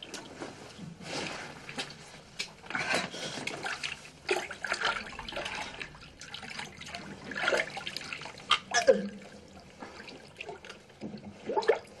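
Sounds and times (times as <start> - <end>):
water splashing in toilet bowl: 1.6 - 12.0.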